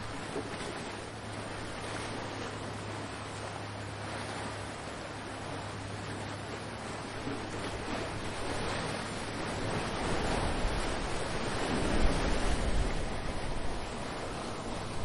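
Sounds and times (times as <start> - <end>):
ocean surf washing in: 0.0 - 15.0
wind rumbling on microphone: 0.0 - 15.0.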